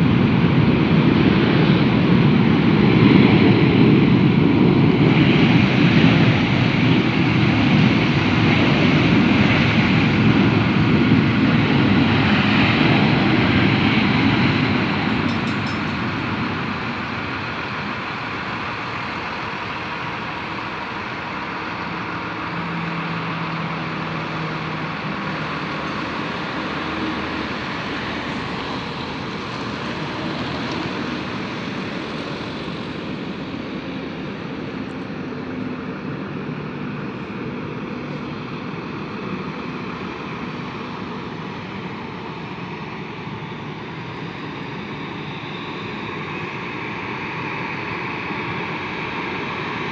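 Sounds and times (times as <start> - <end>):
jet airliner engines: 0.0 - 49.9.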